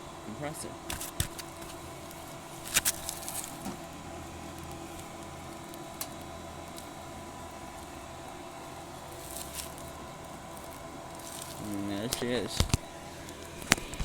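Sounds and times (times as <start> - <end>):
heat pump humming: 0.0 - 14.0.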